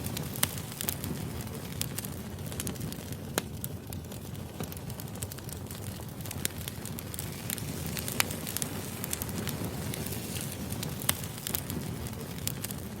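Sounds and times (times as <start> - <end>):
firewood crackling: 0.0 - 13.0.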